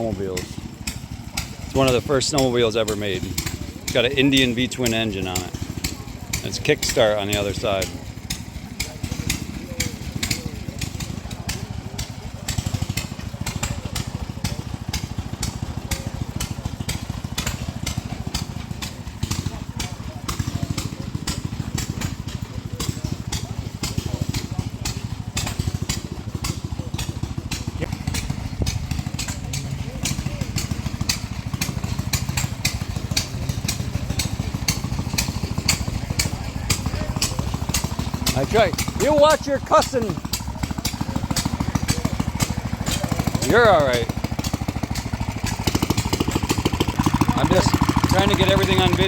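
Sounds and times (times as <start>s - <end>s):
gasoline engine running: 0.0s - 49.0s.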